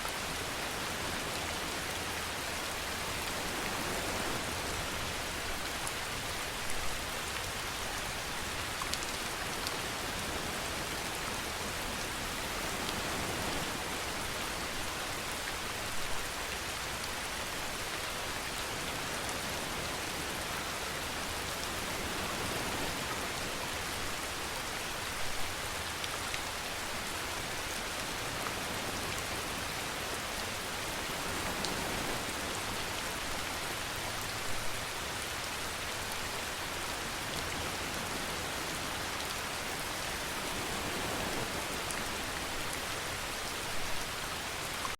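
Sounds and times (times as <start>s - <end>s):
steady rainfall: 0.0s - 44.9s.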